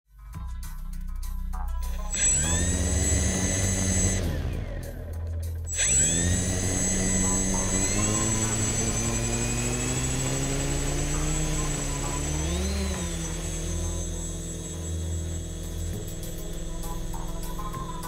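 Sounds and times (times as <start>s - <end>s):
drone motors whining: 1.9s - 18.0s.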